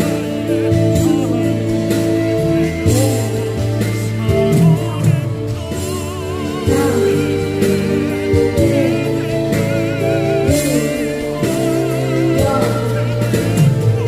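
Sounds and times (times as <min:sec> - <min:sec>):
instrumental accompaniment: 0:00.0 - 0:14.0
tenor singing with vibrato: 0:00.0 - 0:14.0.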